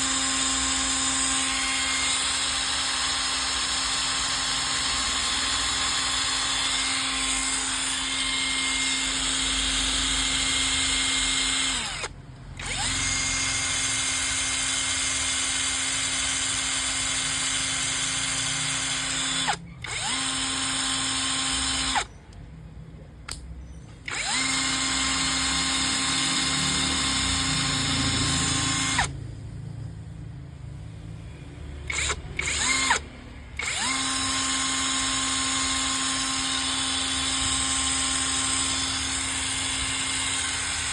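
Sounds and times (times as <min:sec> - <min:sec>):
cordless drill whining: 0:00.0 - 0:22.2, 0:24.0 - 0:29.2, 0:31.9 - 0:40.9.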